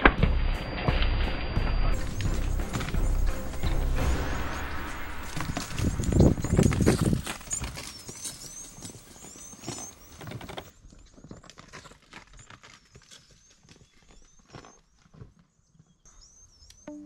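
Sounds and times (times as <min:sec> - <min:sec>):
small birds chirping: 0:02.0 - 0:11.4, 0:12.2 - 0:17.0.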